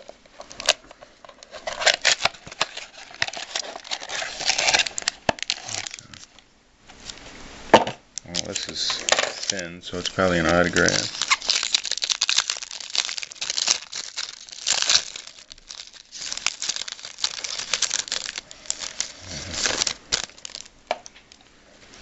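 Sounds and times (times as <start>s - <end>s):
plastic wrapper tearing and crinkling: 0.0s - 6.4s, 8.2s - 21.4s.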